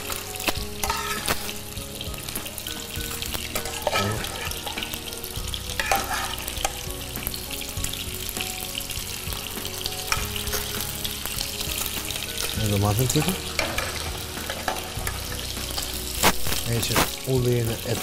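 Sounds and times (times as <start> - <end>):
metal utensil scraping a pan: 0.0 - 7.6, 9.5 - 17.3
oil sizzling in a frying pan: 0.0 - 18.0.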